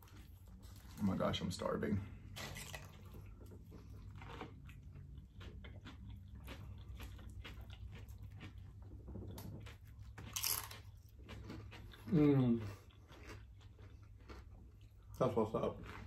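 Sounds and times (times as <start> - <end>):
people chewing: 0.0 - 16.0
tortilla chips crunching: 2.3 - 16.0.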